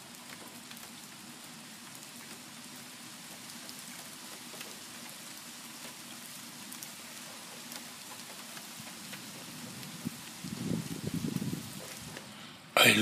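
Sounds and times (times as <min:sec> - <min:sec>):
rain falling: 0:00.0 - 0:13.0
raindrops ticking on surfaces: 0:00.0 - 0:13.0.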